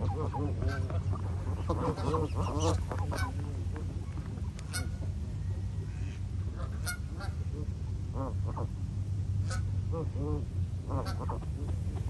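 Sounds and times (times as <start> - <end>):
geese honking: 0.0 - 5.1, 5.9 - 8.7, 9.4 - 11.7.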